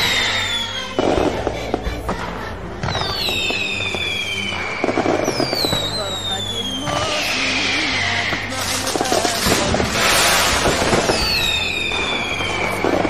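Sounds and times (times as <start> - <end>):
background music: 0.0 - 13.0
fireworks crackling bursts: 0.0 - 13.0
whistling rockets falling in pitch: 0.0 - 13.0.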